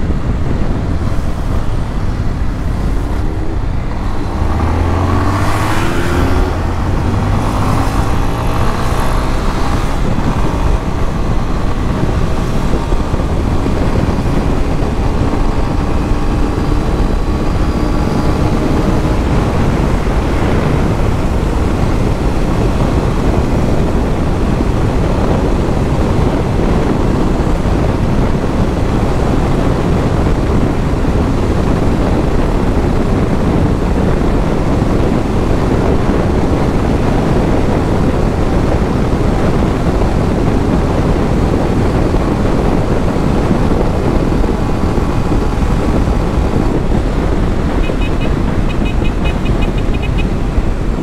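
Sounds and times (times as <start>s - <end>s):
motorcycle engine running: 0.0s - 51.0s
wind rushing on microphone: 0.0s - 51.0s.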